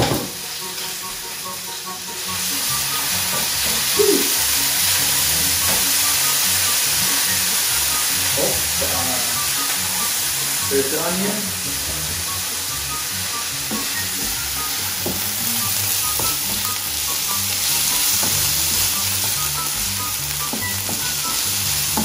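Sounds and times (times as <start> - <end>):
onion sizzling in frying pan: 0.0 - 22.0.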